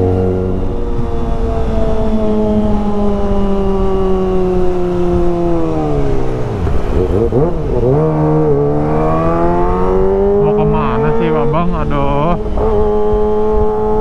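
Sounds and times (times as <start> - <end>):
low wind rumble: 0.0 - 14.0
motorcycle engine and exhaust: 0.0 - 14.0.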